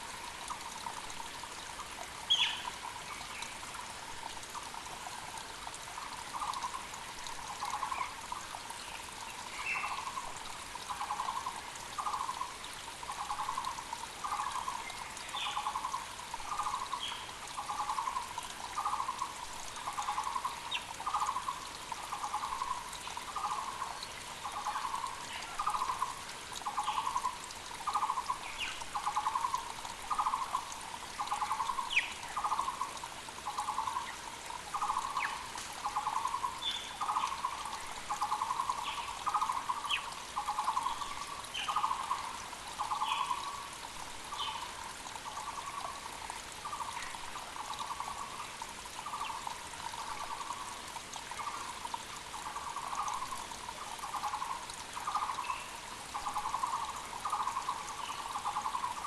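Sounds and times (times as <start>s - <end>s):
creek trickling: 0.0s - 59.0s.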